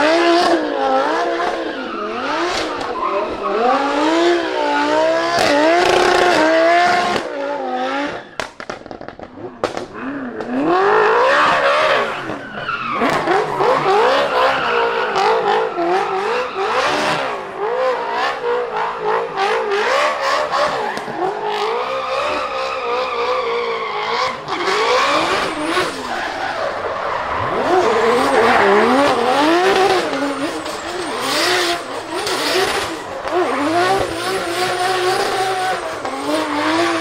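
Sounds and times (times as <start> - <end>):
car engine revving hard: 0.0 - 8.2, 9.8 - 37.0
tyres squealing and skidding: 0.0 - 37.0.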